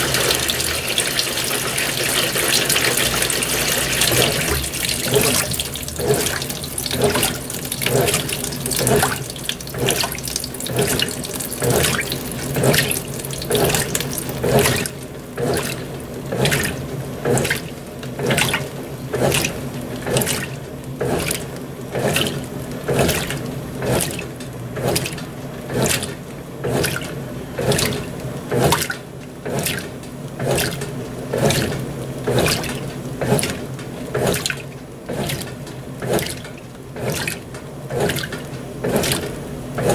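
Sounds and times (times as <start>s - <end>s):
washing machine agitator sloshing: 0.0s - 39.9s
water running into tub: 0.0s - 39.9s.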